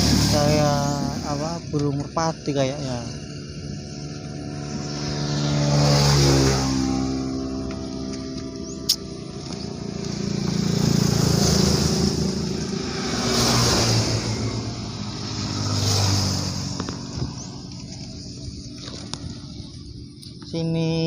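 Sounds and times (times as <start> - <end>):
vehicles passing on road: 0.0 - 21.0.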